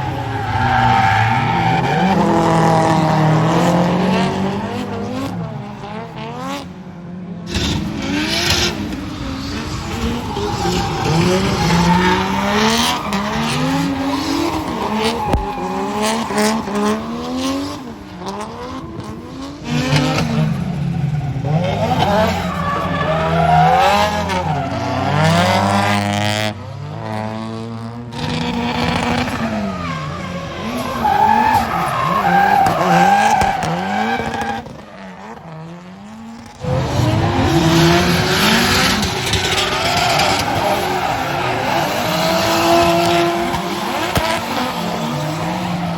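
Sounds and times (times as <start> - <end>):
tyre squeal and skidding: 0.0 - 6.6, 7.5 - 26.1, 28.2 - 45.9
car engines revving: 0.0 - 45.9.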